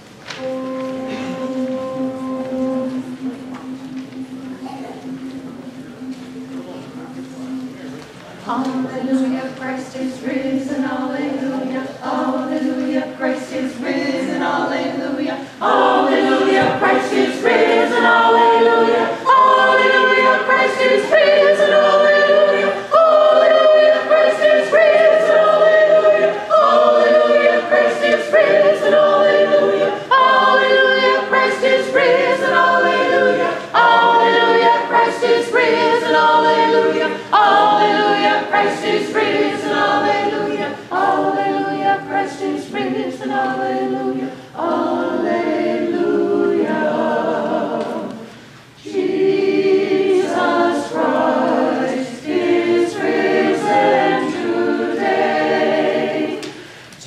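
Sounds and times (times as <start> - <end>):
church choir singing: 0.0 - 56.9.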